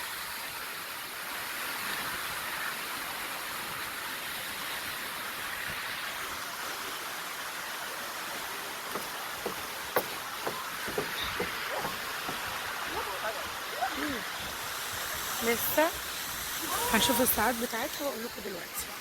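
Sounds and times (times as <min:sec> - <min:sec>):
running and falling water: 0:00.0 - 0:19.0.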